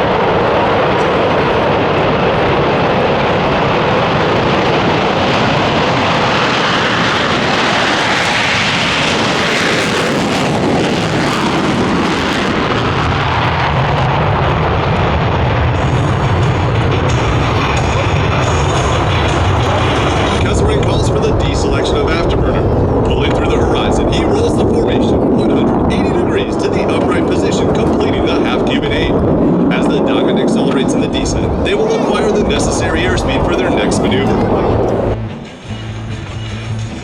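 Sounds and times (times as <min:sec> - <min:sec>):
jet engines roaring past: 0:00.0 - 0:37.0.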